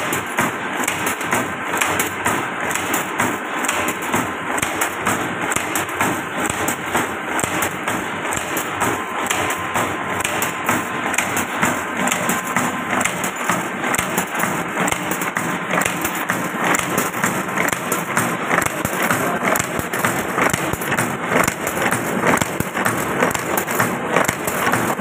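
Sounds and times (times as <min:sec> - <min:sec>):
machine clattering metal strikes: 0:00.0 - 0:25.0.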